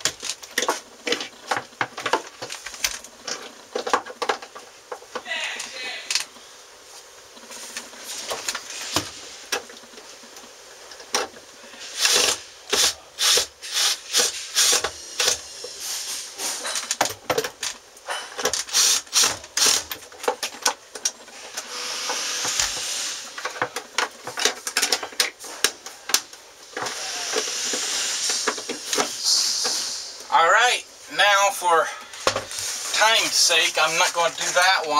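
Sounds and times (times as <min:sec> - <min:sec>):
steady hiss: 0:00.0 - 0:20.2, 0:20.8 - 0:34.9.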